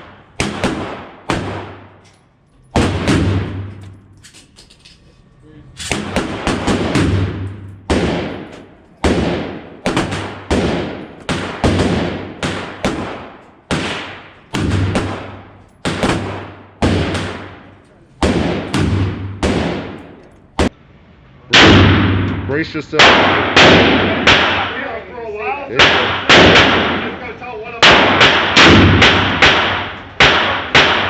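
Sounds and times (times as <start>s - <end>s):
gunshots with echo: 0.0s - 2.0s, 2.8s - 4.0s, 5.9s - 20.7s, 21.5s - 25.0s, 25.8s - 27.2s, 27.8s - 31.0s.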